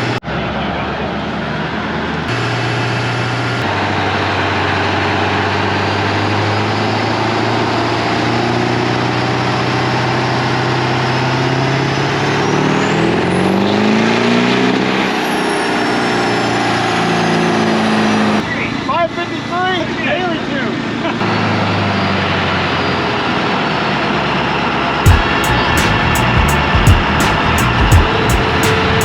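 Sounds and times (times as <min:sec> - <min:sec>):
diesel truck engine running hard: 0:00.0 - 0:29.0
turbo whine: 0:00.0 - 0:29.0.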